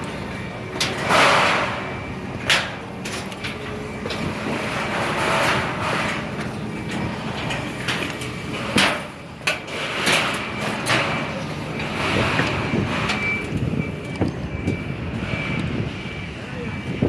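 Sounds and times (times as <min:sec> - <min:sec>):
construction noise: 0:00.0 - 0:17.0.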